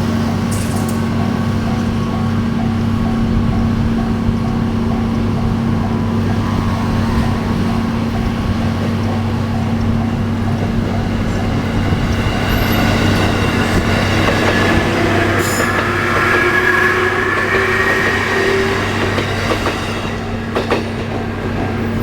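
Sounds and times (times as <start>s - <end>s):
electric train rumbling past: 0.0s - 22.0s
rising train whine: 0.0s - 22.0s.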